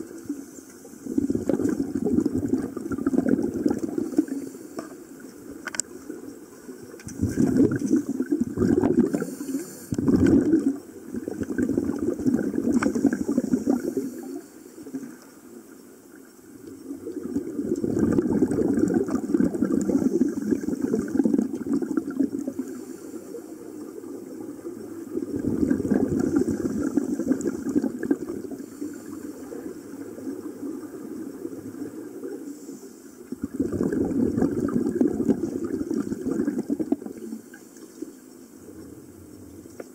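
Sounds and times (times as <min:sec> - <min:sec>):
scuba regulator bubbles gurgling: 0:00.0 - 0:39.9.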